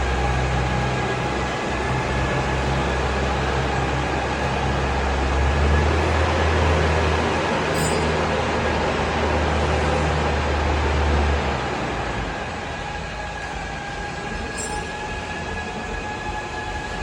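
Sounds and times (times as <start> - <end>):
backhoe diesel engine rumbling: 0.0 - 17.0.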